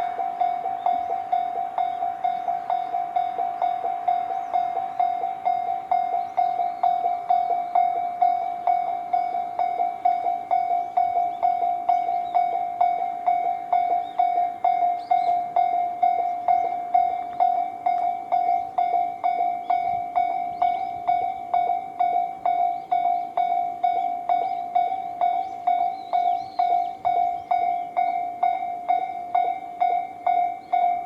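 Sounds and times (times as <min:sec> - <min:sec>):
electronic crossing bell ringing: 0:00.0 - 0:31.0.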